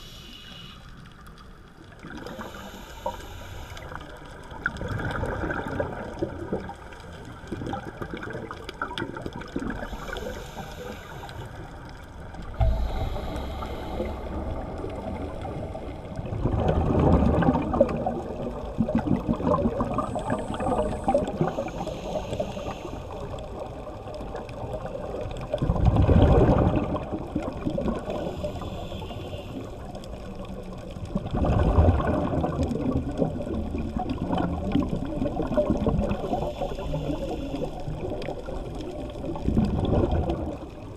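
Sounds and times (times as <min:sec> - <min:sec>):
underwater noise: 0:00.0 - 0:40.9
exhaled bubbles rushing: 0:03.9 - 0:10.4, 0:11.5 - 0:21.9, 0:23.1 - 0:28.8, 0:29.6 - 0:40.9.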